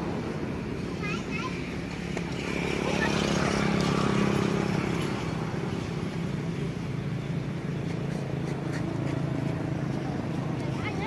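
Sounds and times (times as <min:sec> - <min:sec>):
outdoor background noise: 0:00.0 - 0:11.0
vehicle engine humming: 0:00.0 - 0:11.0.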